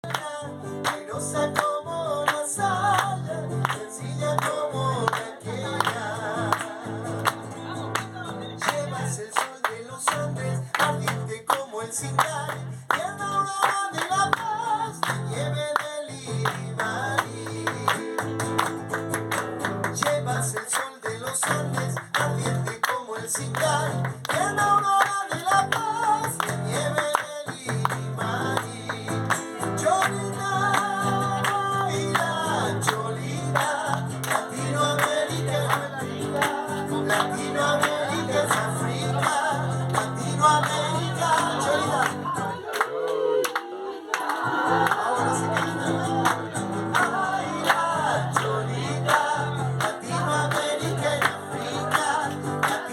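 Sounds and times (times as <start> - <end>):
person singing: 0.0 - 18.4, 20.0 - 52.9
acoustic guitar strummed and plucked: 0.0 - 42.6, 44.4 - 52.9.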